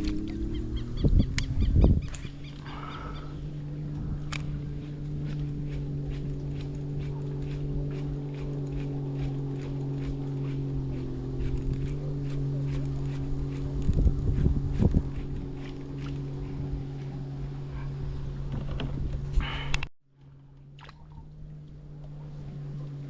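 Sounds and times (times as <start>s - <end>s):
wind buffeting microphone: 0.0s - 19.6s
engine humming: 0.0s - 23.0s.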